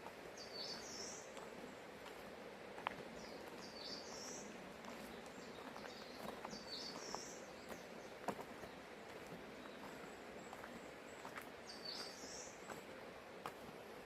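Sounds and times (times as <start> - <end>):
songbird singing: 0.0 - 13.1
forest ambience hush: 0.0 - 14.0.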